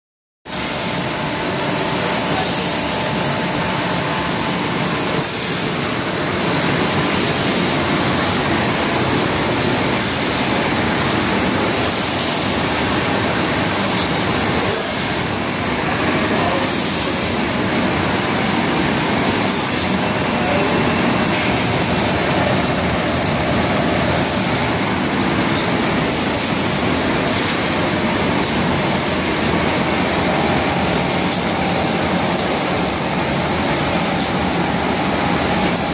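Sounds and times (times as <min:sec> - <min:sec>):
laminating machine drone: 0:00.5 - 0:35.9.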